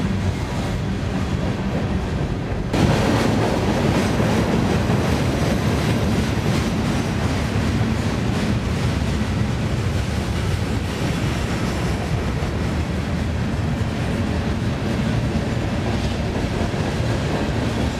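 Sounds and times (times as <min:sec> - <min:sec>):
freight train wheels rumbling: 0:00.0 - 0:17.9.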